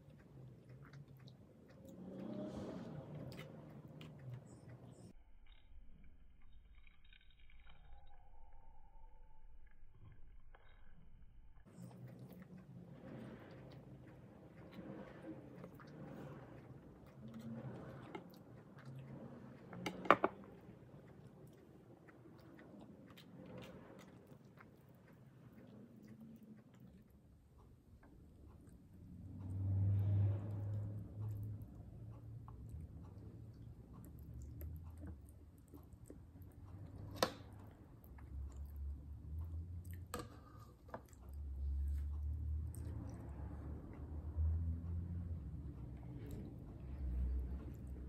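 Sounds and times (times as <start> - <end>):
person chewing food: 0.0 - 8.1, 9.6 - 29.9, 30.6 - 48.0.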